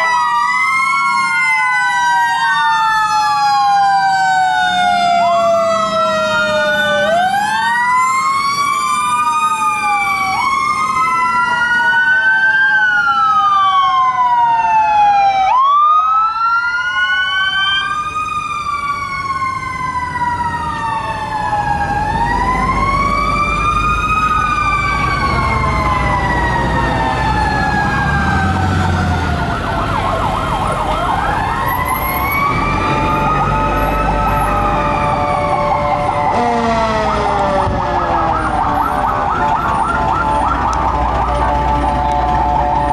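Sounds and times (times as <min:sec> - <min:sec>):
fast warbling siren: 0:00.0 - 0:42.9
fire truck sirens wailing: 0:00.0 - 0:42.9
truck engines rumbling: 0:00.0 - 0:42.9.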